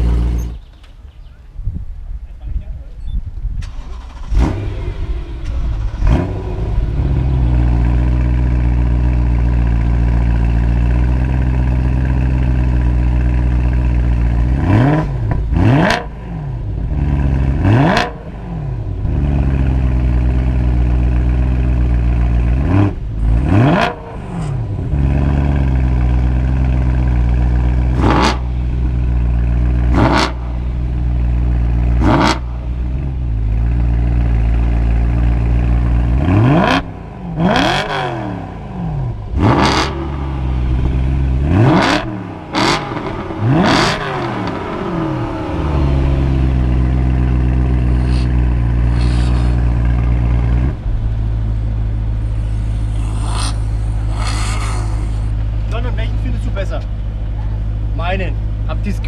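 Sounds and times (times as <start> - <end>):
car engines idling and revving: 0.0 - 59.0.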